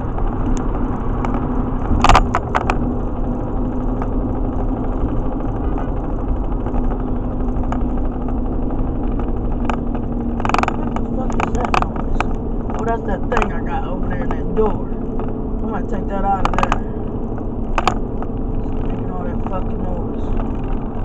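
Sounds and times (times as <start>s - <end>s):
low steady hum: 0.0s - 21.0s
sharp rattling knocks: 0.0s - 21.0s
truck tyre drone: 0.0s - 21.0s.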